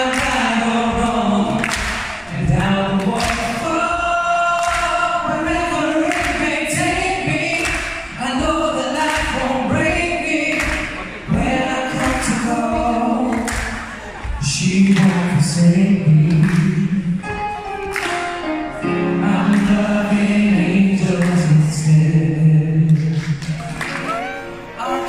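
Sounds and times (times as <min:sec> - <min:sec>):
man singing into a microphone: 0:00.0 - 0:17.5, 0:18.8 - 0:25.0.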